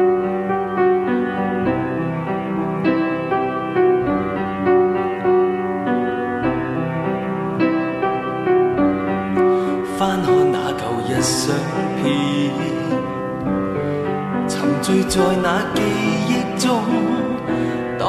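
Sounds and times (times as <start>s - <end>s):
piano melody: 0.0s - 18.0s
sustained keyboard chords: 0.0s - 18.0s.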